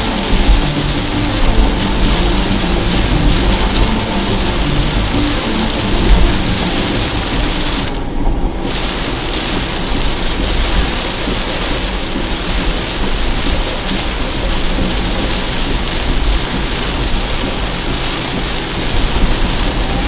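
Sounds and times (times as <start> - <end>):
heavy rain on car: 0.0 - 20.0.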